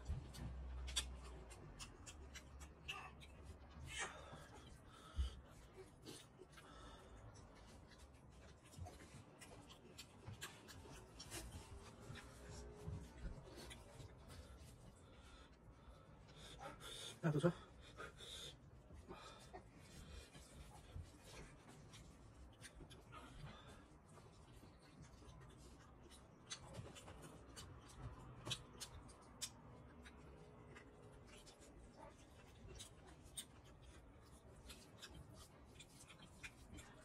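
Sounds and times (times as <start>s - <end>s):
wet chewing clicks and smacks: 0.0s - 16.5s, 18.2s - 37.0s.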